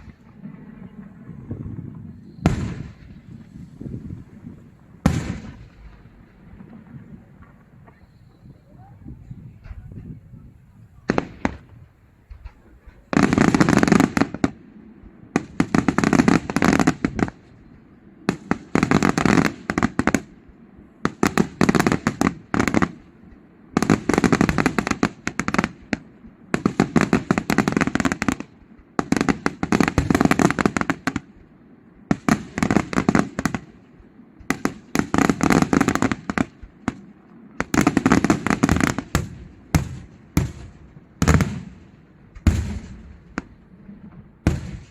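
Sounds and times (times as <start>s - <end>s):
fireworks crackling bangs: 0.0s - 44.9s.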